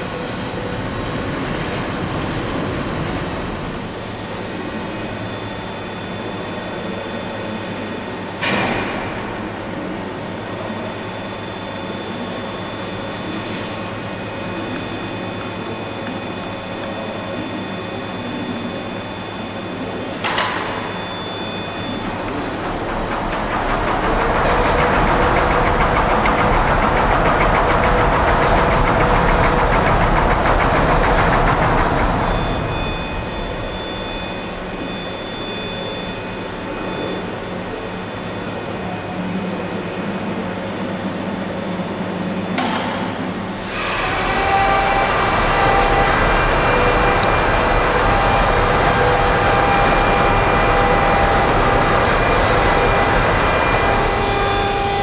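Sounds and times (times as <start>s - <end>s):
rail waggon machinery running: 0.0s - 55.0s
steady whine: 0.0s - 55.0s.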